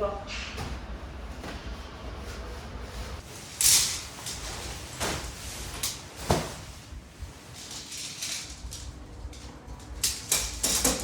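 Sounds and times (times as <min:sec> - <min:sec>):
nylon fabric rustling: 0:00.7 - 0:11.0.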